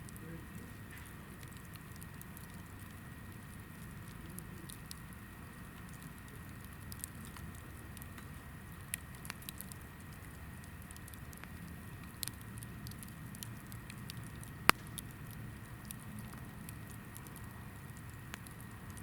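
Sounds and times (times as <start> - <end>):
campfire flame rumble: 0.0 - 19.0
wood crackling: 0.0 - 19.0.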